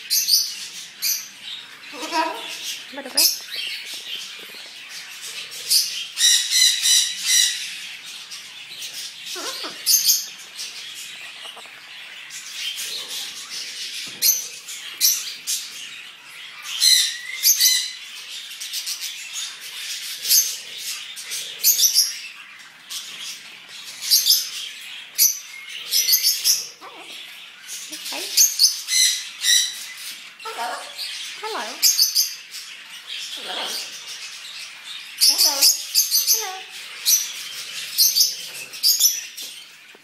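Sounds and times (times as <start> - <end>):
parrots squawking and chirping: 0.0 - 40.0.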